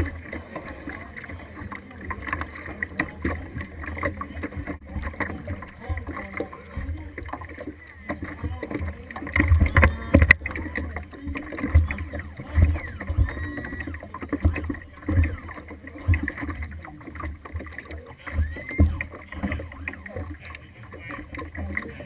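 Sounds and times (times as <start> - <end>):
water lapping against boat hull: 0.0 - 22.0.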